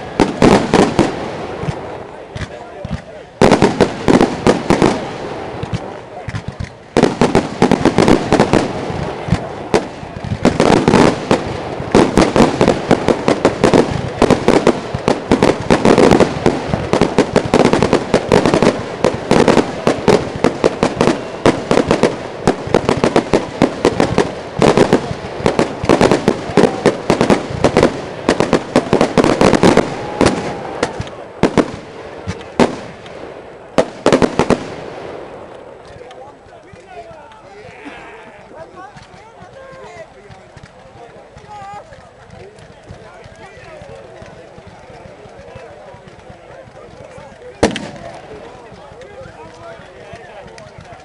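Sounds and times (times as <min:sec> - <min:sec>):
fireworks bursts and crackles: 0:00.0 - 0:51.0.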